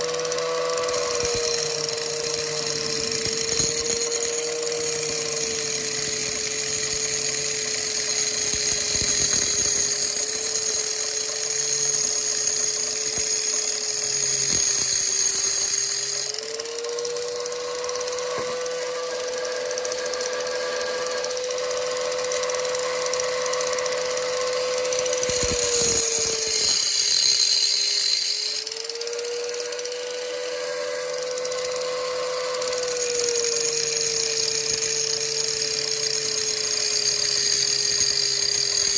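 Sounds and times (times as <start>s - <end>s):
angle grinder whining: 0.0s - 38.9s
grinding hiss: 0.0s - 38.9s.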